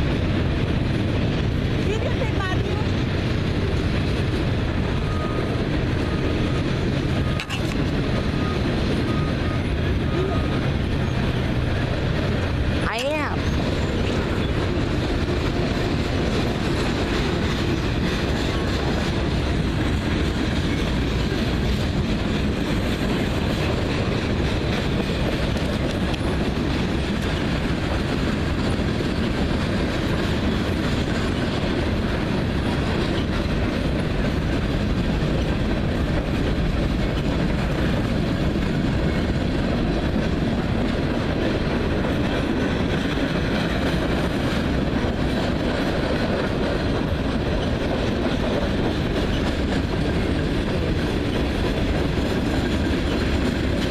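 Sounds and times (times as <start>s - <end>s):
freight train rolling past: 0.0s - 53.9s.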